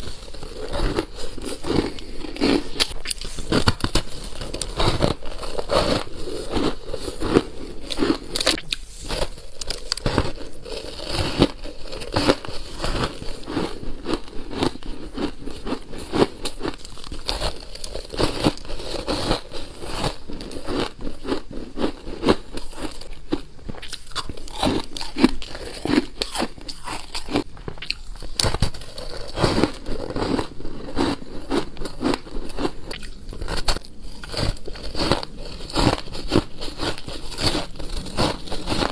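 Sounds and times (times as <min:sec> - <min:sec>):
person crunching shaved ice: 0:00.0 - 0:38.9.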